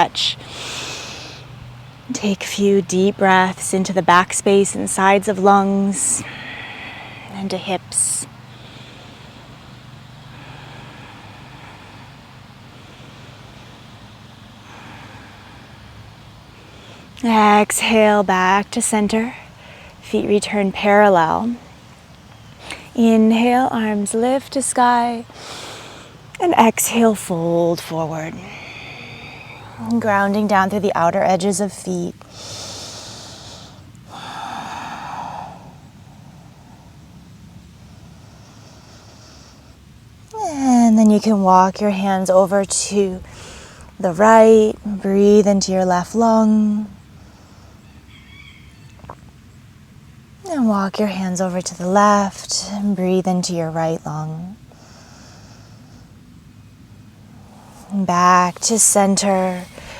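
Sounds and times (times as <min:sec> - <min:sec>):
faint hum: 0:00.0 - 0:59.9
low background rumble: 0:00.0 - 0:59.9.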